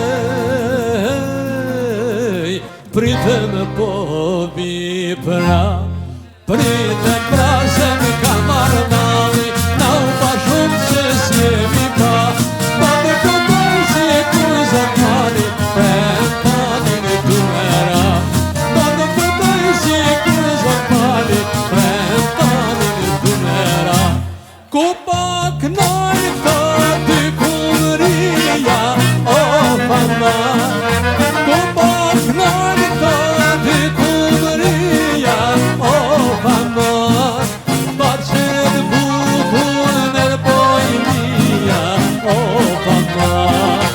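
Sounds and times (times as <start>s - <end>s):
folk song singing over instruments: 0.0s - 43.9s.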